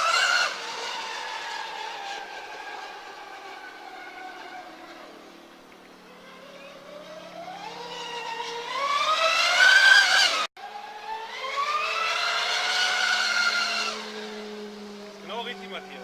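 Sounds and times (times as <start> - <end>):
rc boat motor whining: 0.0 - 16.0.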